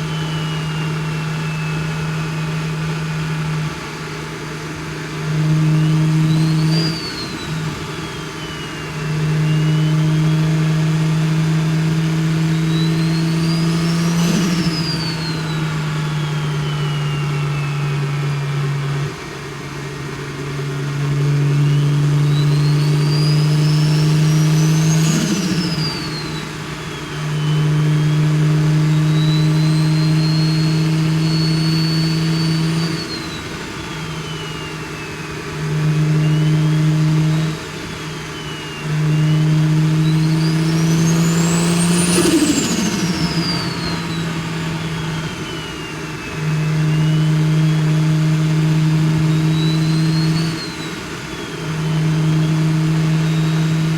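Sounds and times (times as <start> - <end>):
engine drone: 0.0 - 53.9
turbo whistle: 0.0 - 53.9
turbo flutter: 5.3 - 53.9.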